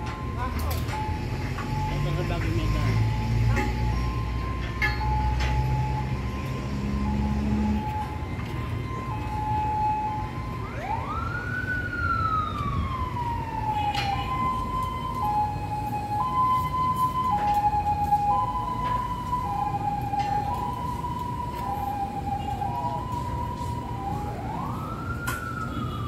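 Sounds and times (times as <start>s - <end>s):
two-tone siren: 0.0s - 26.0s.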